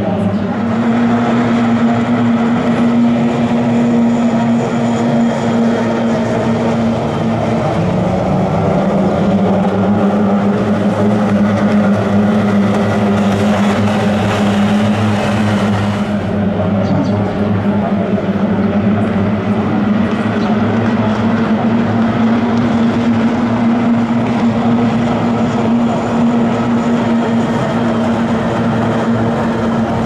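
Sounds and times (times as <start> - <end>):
racing boat motors droning: 0.0 - 30.0.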